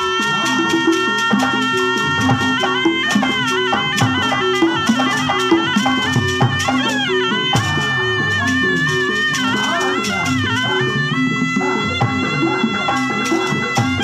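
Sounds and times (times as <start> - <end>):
hand drum strokes: 0.0 - 14.0
shawm melody: 0.0 - 14.0.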